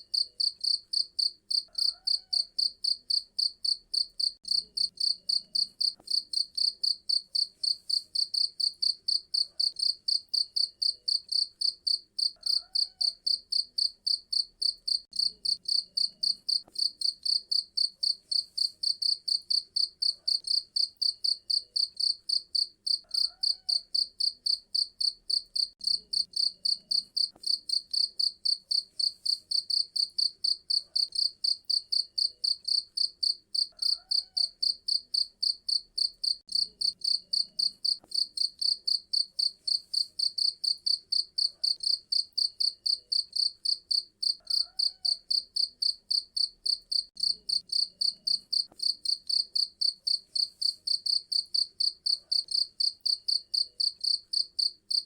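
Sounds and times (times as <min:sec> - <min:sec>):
cricket chirping: 0:00.1 - 0:55.0.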